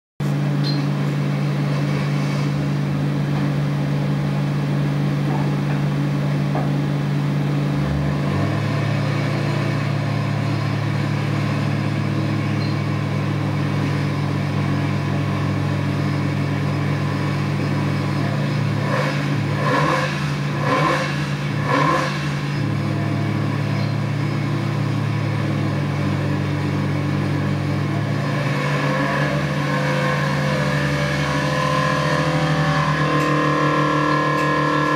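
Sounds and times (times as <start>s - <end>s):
engine running steadily: 0.2s - 34.9s.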